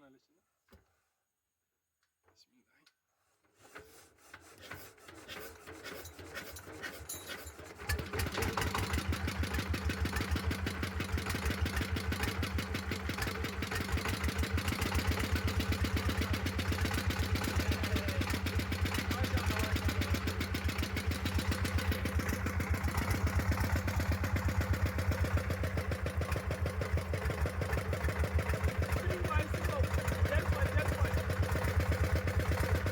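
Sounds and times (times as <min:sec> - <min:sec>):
air compressor engine running: 0:04.5 - 0:32.9.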